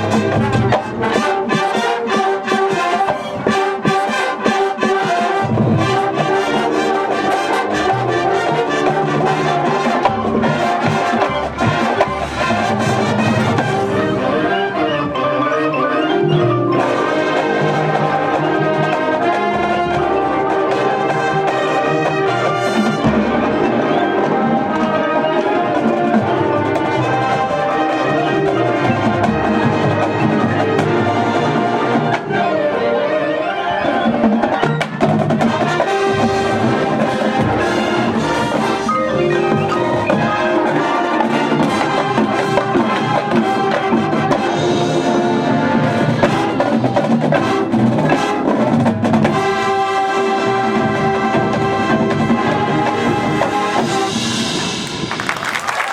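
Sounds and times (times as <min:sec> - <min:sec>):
marching drums and percussion: 0:00.0 - 0:32.6, 0:33.8 - 0:55.9
brass instruments playing: 0:00.0 - 0:55.9.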